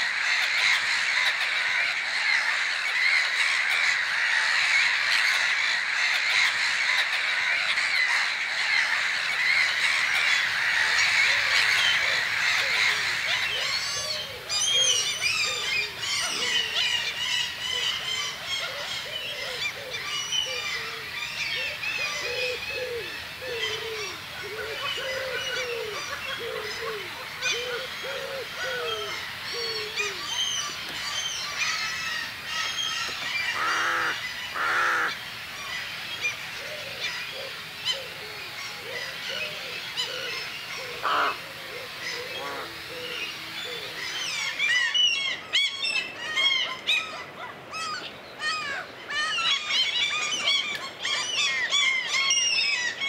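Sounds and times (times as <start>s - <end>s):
birds chirping and trilling: 0.0s - 53.0s.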